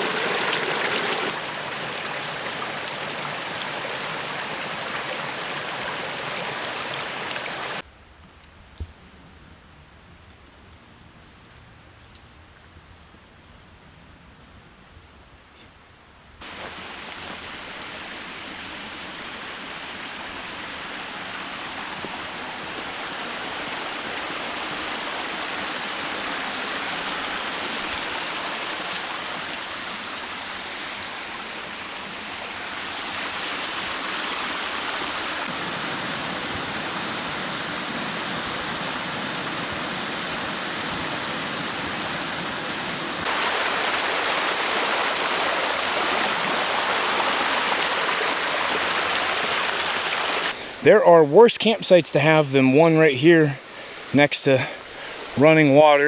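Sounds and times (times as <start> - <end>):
creek running over rocks: 0.0 - 7.8, 16.4 - 56.0.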